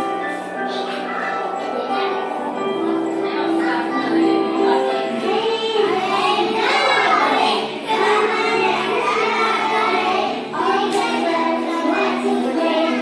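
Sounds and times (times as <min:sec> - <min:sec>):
bright backing track: 0:00.0 - 0:13.0
children singing: 0:00.0 - 0:13.0.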